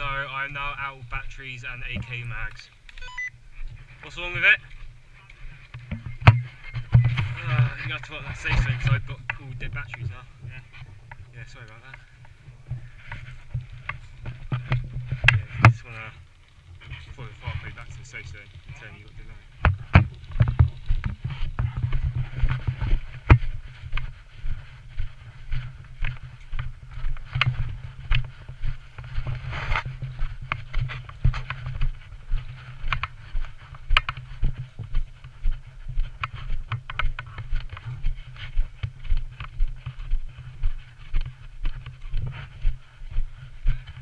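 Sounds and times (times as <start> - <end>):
footsteps walking: 0.0 - 44.0.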